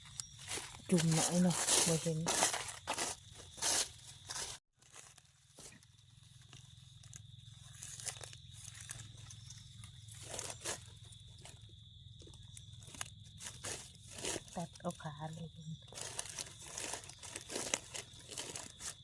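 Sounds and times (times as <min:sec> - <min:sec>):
dry leaves crunching and rustling: 0:00.0 - 0:11.6, 0:12.2 - 0:15.1, 0:15.8 - 0:19.0.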